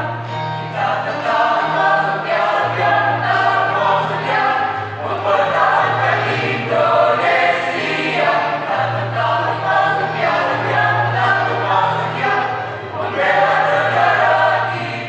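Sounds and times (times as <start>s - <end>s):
choir singing in parts: 0.0s - 15.0s.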